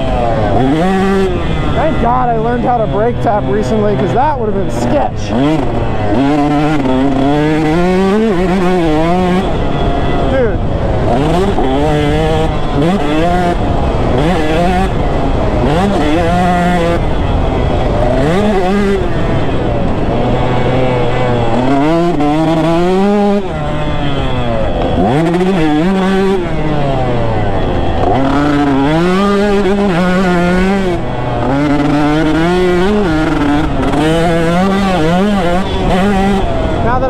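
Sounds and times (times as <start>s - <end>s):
two-stroke motorcycle engine revving: 0.0s - 37.0s.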